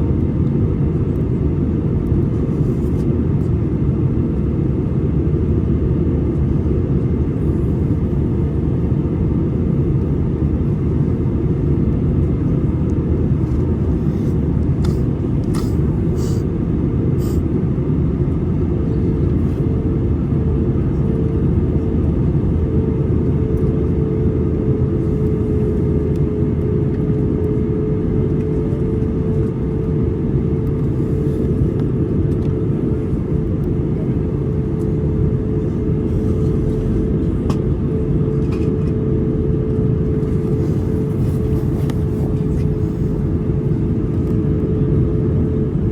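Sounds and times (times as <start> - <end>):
airplane cabin engine roar: 0.0 - 45.9
steady hum: 0.0 - 45.9.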